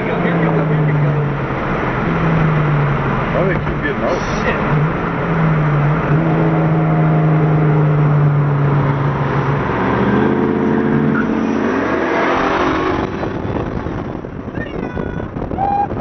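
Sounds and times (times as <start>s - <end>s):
car engine accelerating hard: 0.0s - 14.4s.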